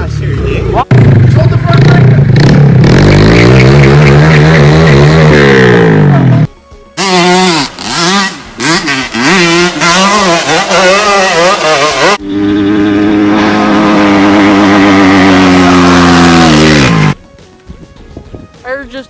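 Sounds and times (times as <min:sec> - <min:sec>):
dirt bike engine revving: 0:00.0 - 0:17.2.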